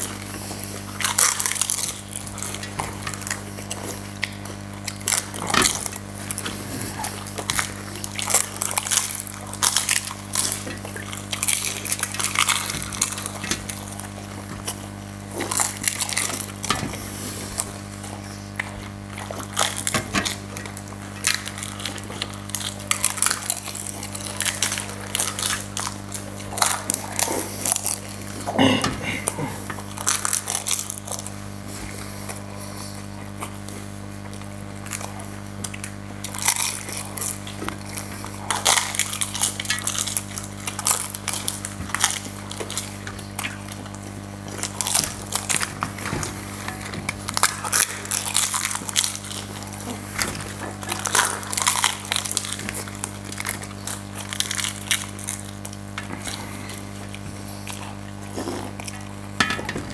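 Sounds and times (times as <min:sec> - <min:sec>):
crunching and chewing: 0:00.0 - 0:59.9
steady low hum: 0:00.0 - 0:59.9.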